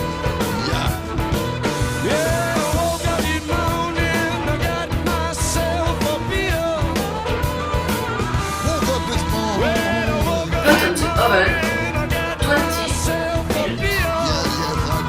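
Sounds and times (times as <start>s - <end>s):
rock and roll song with singing: 0.0s - 15.0s.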